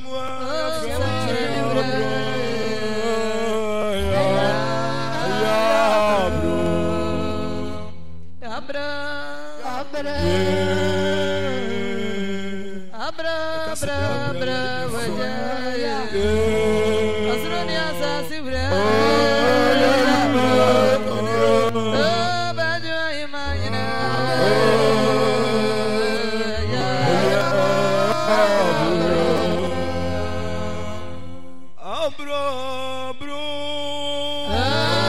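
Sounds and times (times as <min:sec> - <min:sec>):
singing voices: 0:00.0 - 0:35.0.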